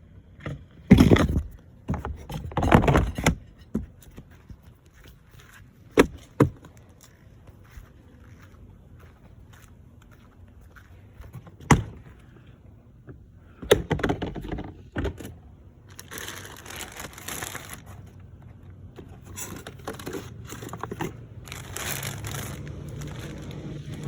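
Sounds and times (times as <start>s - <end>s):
rustling and crinkling: 0.9s - 12.6s, 14.1s - 24.0s.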